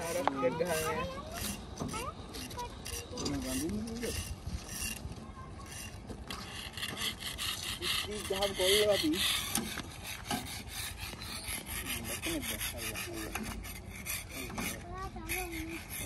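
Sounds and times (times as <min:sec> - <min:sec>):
rough scraping on road surface: 0:00.0 - 0:16.0.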